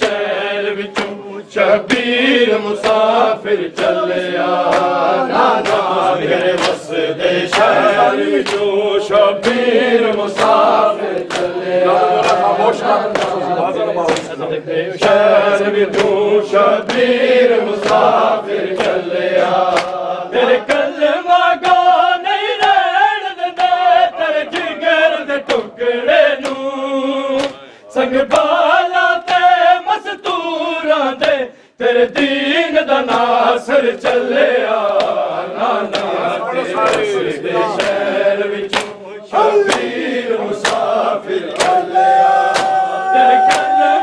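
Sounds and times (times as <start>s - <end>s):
men chanting in unison: 0.0s - 44.0s.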